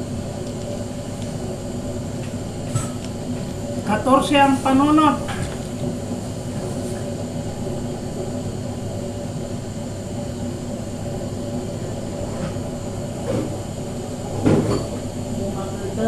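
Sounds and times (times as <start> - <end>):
gas burner rumbling: 0.0 - 16.0.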